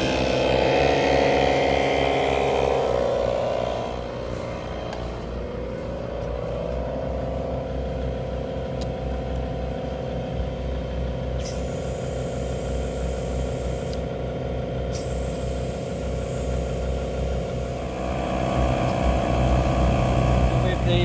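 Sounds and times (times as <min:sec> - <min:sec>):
air compressor whining: 0:00.0 - 0:21.0.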